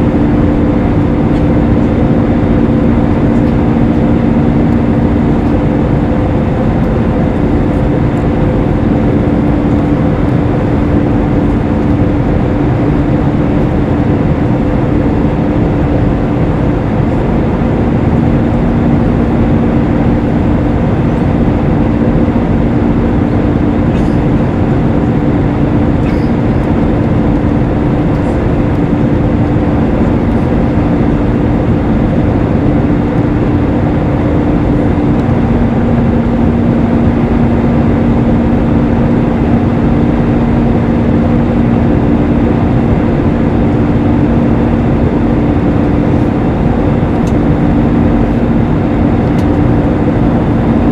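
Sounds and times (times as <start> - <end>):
engine hums: 0.0 - 50.9
jet engine cabin roar: 0.0 - 50.9.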